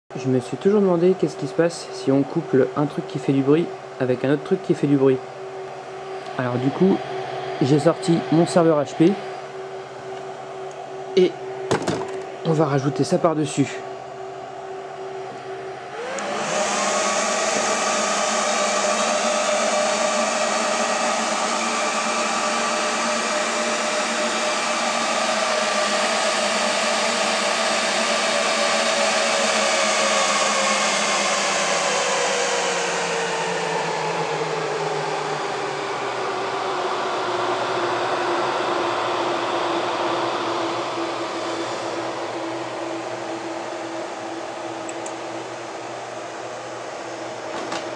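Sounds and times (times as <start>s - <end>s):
server cooling fans whining: 0.1s - 47.9s.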